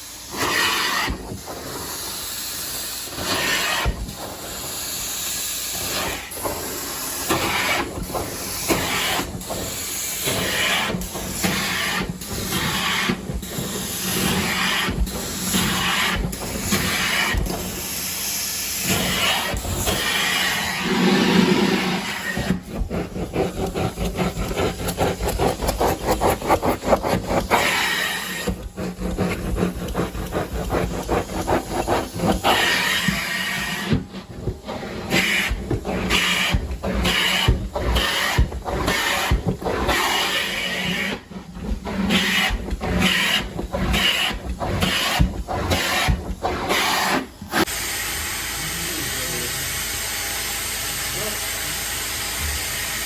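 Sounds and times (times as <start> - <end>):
carpet cleaner spraying and suction: 0.0 - 53.0.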